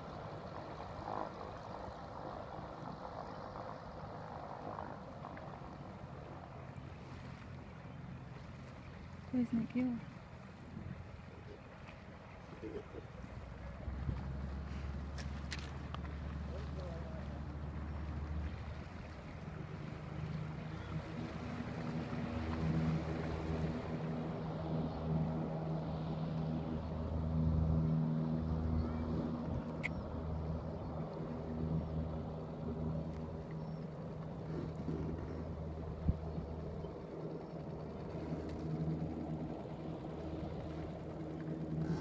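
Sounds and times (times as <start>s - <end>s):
engine drone: 0.0s - 42.0s.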